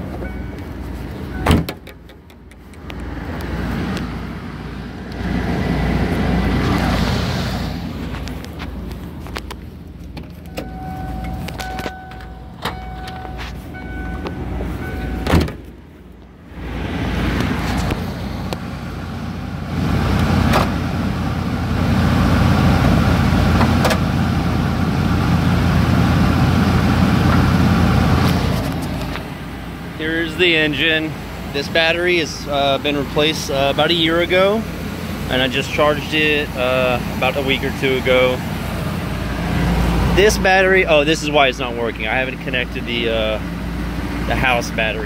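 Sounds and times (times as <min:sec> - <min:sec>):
engine fan noise: 0:00.0 - 0:45.0
motorhome engine idling: 0:00.0 - 0:45.0.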